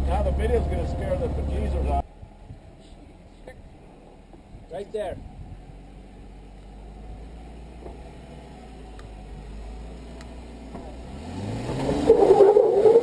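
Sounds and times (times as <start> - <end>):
vehicle engine idling and revving: 0.0 - 13.0.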